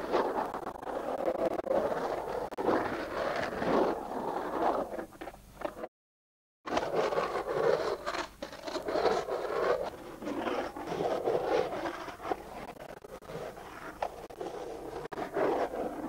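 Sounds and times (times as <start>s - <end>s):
skateboard wheels rolling on concrete: 0.0s - 5.9s, 6.7s - 16.0s.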